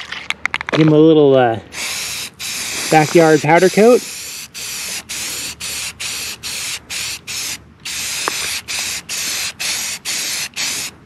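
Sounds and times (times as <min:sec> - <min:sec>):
spray paint can hissing: 0:01.7 - 0:11.0.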